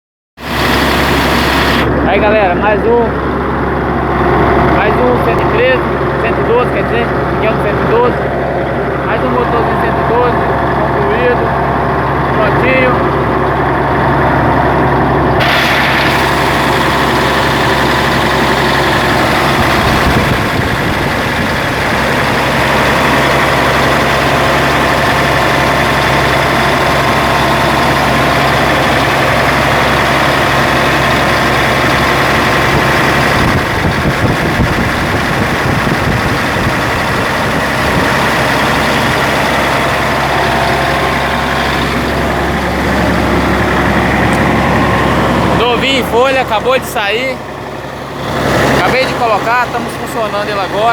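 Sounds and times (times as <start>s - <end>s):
diesel engine running: 0.4s - 50.9s.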